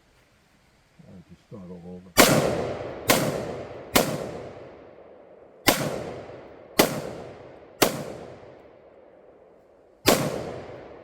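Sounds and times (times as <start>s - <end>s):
gunshots with long echo: 2.2s - 11.0s.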